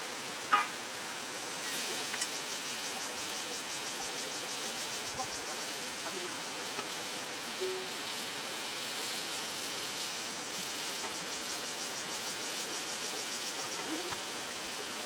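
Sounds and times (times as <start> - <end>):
dense hiss: 0.0 - 15.0
insects chirring: 0.1 - 15.0.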